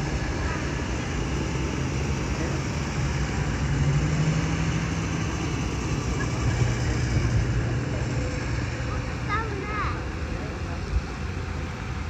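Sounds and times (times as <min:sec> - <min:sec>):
tractor engines droning: 0:00.0 - 0:12.0.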